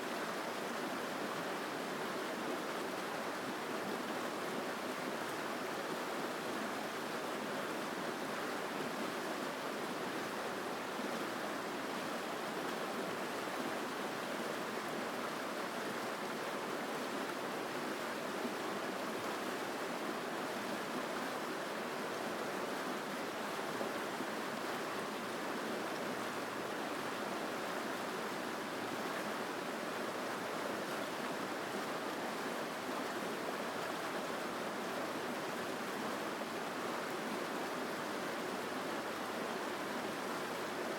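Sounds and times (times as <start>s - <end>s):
mountain stream flowing: 0.0s - 40.9s.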